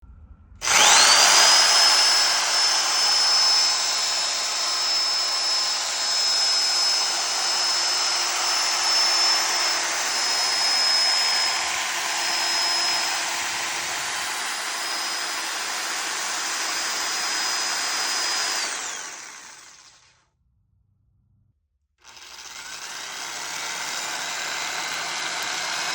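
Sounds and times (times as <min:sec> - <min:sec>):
reciprocating saw whining: 0:00.6 - 0:20.2, 0:22.0 - 0:25.9.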